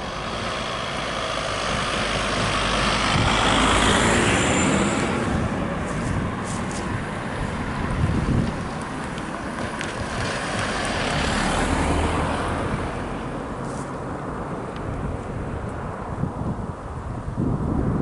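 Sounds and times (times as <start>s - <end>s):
car passing by: 0.0s - 17.2s
wind rumble on microphone: 0.0s - 18.0s.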